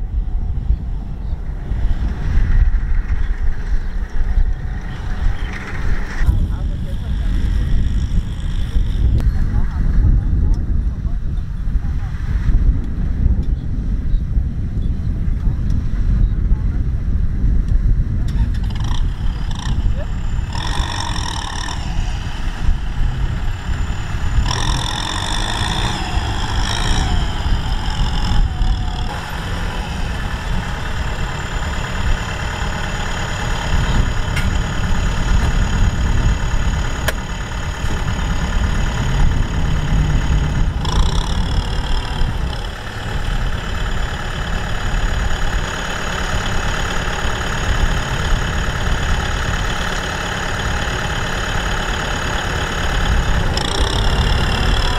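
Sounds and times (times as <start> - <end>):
tractor diesel engine idling: 0.0 - 12.5, 17.0 - 54.9.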